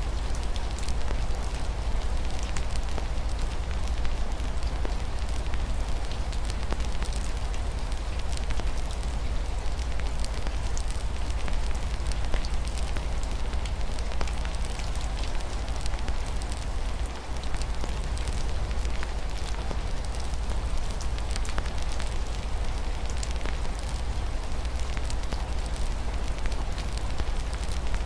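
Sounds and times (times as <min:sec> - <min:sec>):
wood fire crackling and popping: 0:00.1 - 0:28.0.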